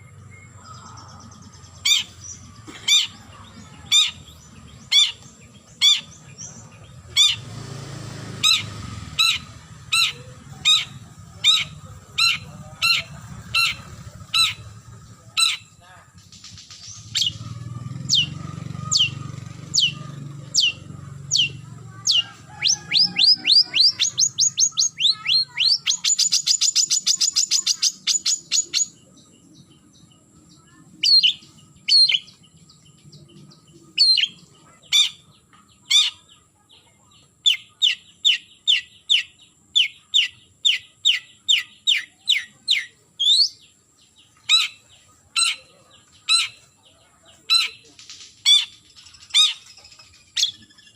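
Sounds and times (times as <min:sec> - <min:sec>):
shrike calling: 0:00.0 - 0:50.9.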